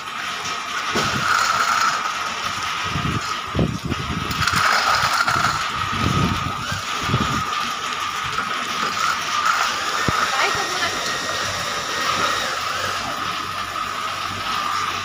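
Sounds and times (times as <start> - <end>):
machine high whine: 0.0 - 15.0.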